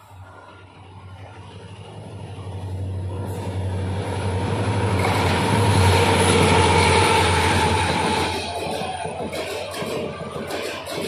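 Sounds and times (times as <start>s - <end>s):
diesel locomotive engine drone: 0.0s - 11.0s
train rumble: 0.0s - 11.0s.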